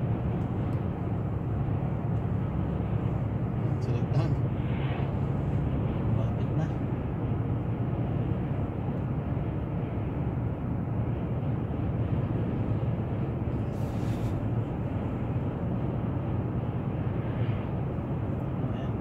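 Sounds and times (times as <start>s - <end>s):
car driving interior drone: 0.0s - 19.0s.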